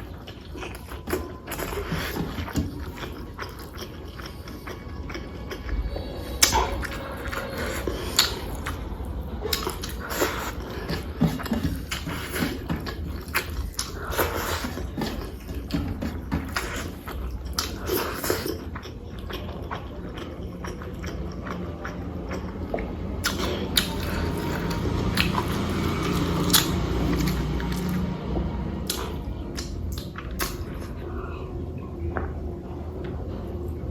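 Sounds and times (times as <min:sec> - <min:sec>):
person chewing and biting: 0:00.0 - 0:22.6, 0:23.2 - 0:28.1, 0:28.8 - 0:31.0.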